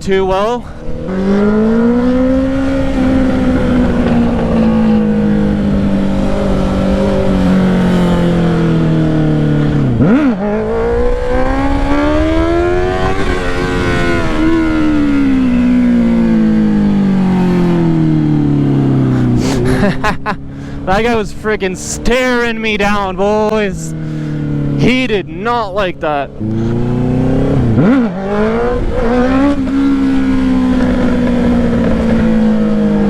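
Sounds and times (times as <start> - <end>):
motorcycle engine running loud: 0.0 - 33.0.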